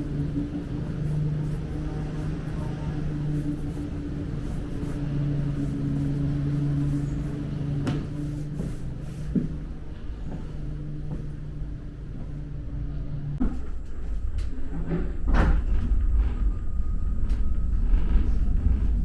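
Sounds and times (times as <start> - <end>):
vehicle hum and rumble: 0.0 - 19.0.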